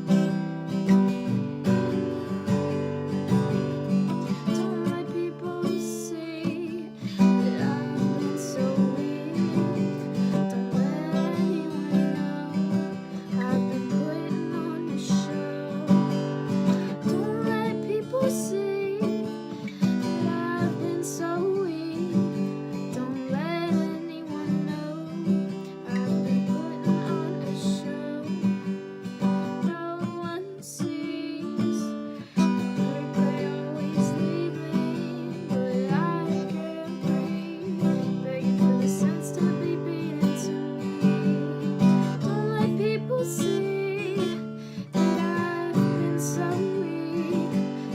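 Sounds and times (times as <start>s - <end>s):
acoustic guitar strumming chords: 0.0s - 47.9s.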